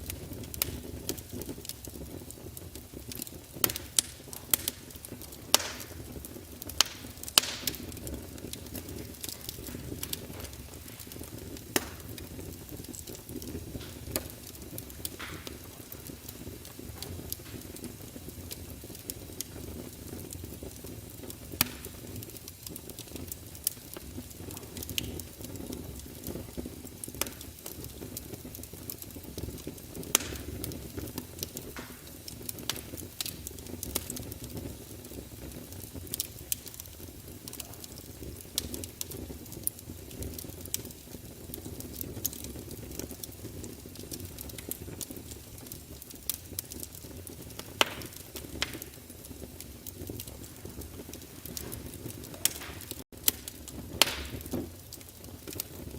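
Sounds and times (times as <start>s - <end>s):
fire crackling and popping: 0.0s - 55.9s
flames rumbling: 0.0s - 55.9s.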